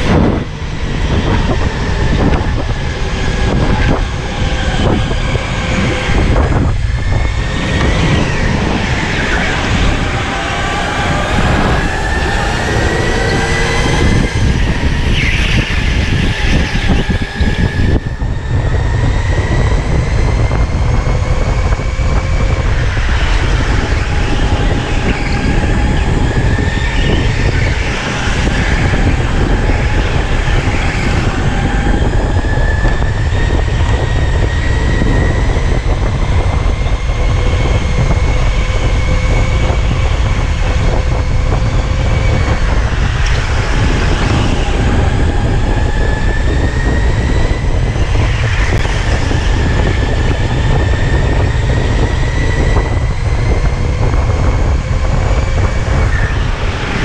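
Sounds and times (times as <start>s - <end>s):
electric go-kart motor whine: 0.0s - 57.0s
low chassis rumble: 0.0s - 57.0s.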